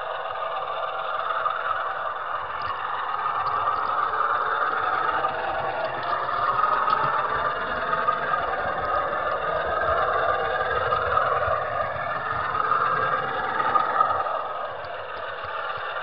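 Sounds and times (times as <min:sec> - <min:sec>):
model train motor whine: 0:00.0 - 0:16.0
wheel and rail clatter: 0:00.0 - 0:16.0.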